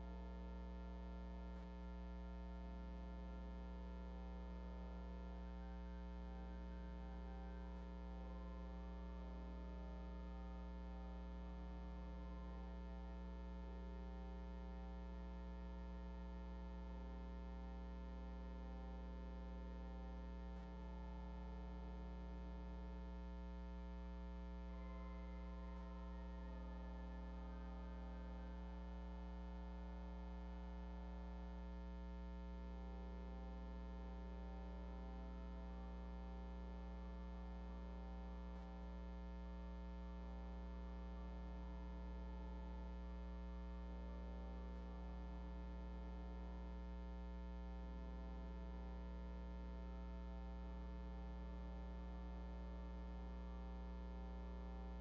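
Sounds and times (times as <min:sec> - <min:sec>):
faint slow music of held notes: 0:00.0 - 0:55.0.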